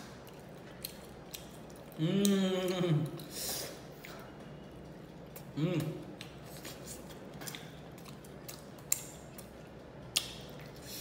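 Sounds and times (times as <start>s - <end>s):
chewing fried fish: 0.0s - 11.0s.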